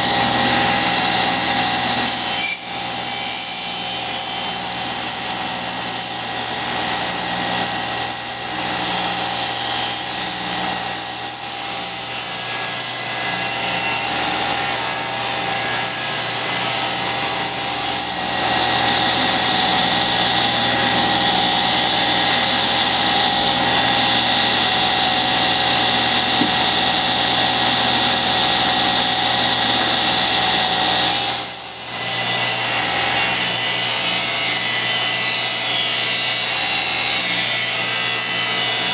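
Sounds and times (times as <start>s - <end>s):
table saw ripping wood: 0.0s - 21.7s, 26.0s - 38.9s
saw blade spinning free whine: 0.0s - 38.9s.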